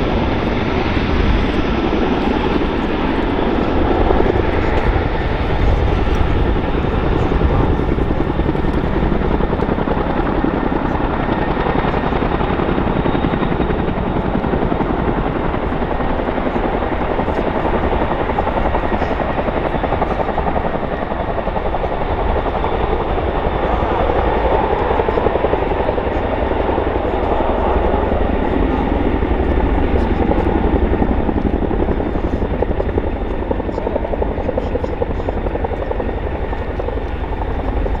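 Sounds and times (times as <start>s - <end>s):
helicopter rotor chop: 0.0s - 38.0s
turbine drone: 0.0s - 38.0s.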